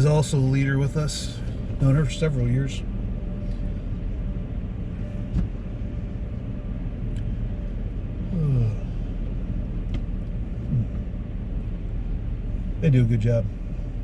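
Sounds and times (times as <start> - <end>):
vehicle cabin rumble: 0.0 - 14.0.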